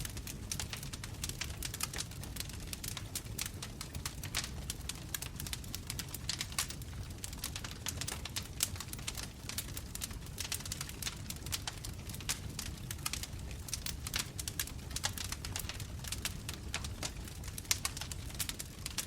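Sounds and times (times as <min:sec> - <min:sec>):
bonfire crackling and popping: 0:00.0 - 0:19.0
low rumble of flames: 0:00.0 - 0:19.0.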